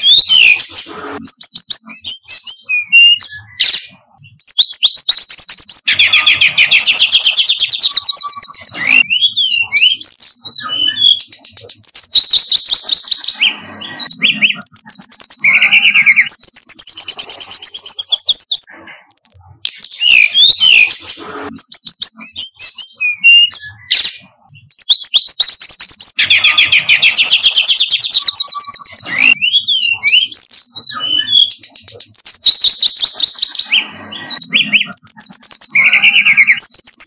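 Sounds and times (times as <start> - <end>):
bird singing trills and whistles: 0.0 - 37.0.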